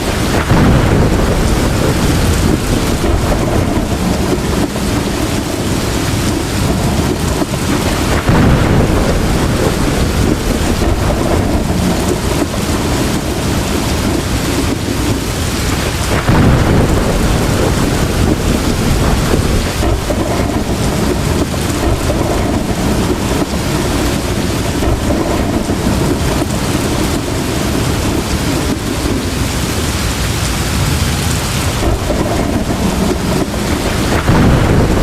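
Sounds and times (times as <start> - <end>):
heavy rain pouring: 0.0 - 35.0
thunder rumbling: 0.0 - 35.0.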